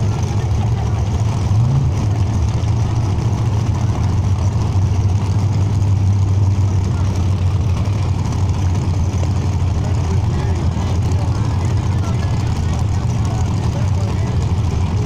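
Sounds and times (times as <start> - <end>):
background chatter: 0.0 - 15.0
racing engine idling and revving: 0.0 - 15.0.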